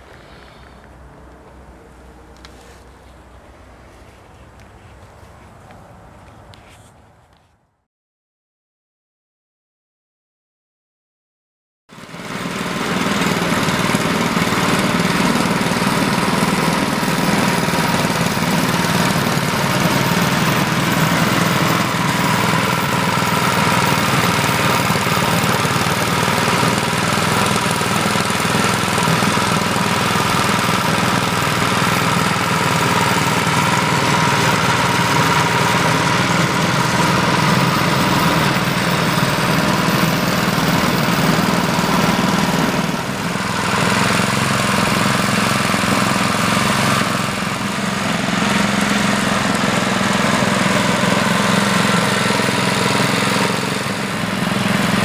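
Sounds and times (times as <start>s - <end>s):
small engine running: 0.0s - 6.8s, 11.9s - 55.0s.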